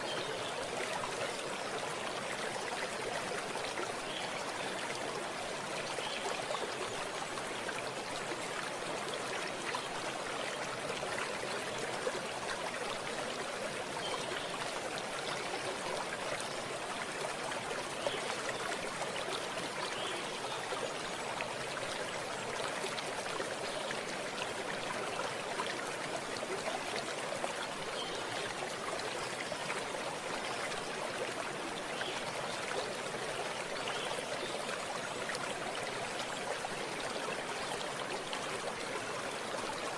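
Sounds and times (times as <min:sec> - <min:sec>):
stream water over stones: 0:00.0 - 0:39.9.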